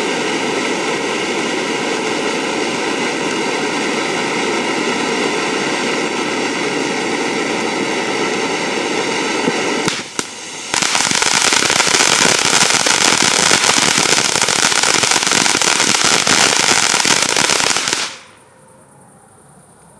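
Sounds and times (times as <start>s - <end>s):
firework crackling: 0.0s - 18.5s
firework fountain hissing: 0.0s - 18.5s.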